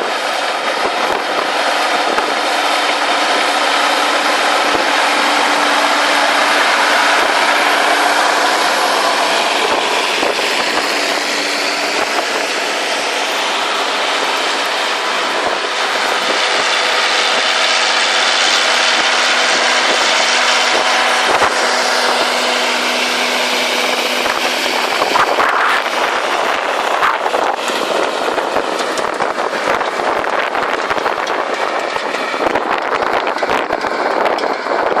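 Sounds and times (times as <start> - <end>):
tractor diesel engine working hard: 0.0 - 35.0.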